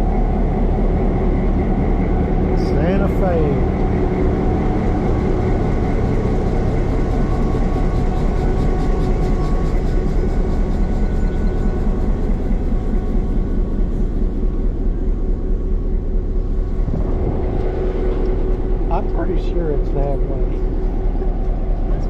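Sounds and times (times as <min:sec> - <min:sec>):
constant hum: 0:00.0 - 0:22.0
diesel locomotive idling: 0:00.0 - 0:22.0.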